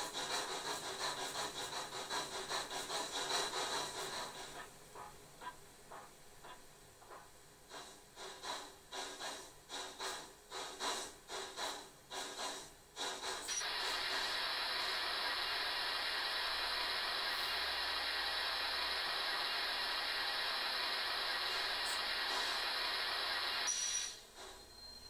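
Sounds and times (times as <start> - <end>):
loud steam hiss: 0.0 - 4.5, 7.6 - 24.7
steam exhaust chuffs: 0.0 - 25.0.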